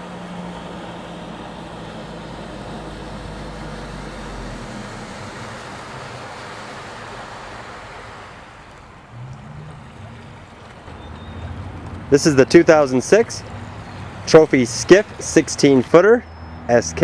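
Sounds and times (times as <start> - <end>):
hull and wash rushing: 0.0 - 17.0
outboard engine: 0.0 - 17.0.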